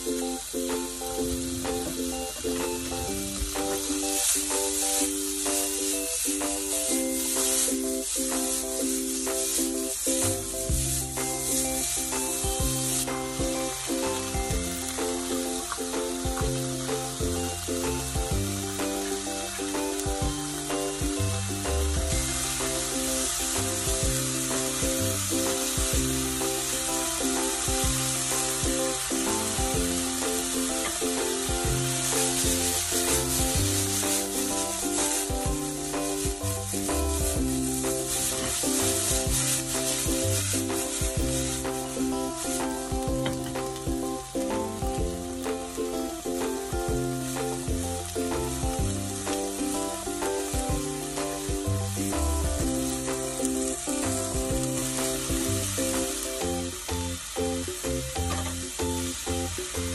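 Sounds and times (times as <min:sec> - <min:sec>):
background music with bass line: 0:00.0 - 0:59.9
food sizzling in a frying pan: 0:00.0 - 0:59.9.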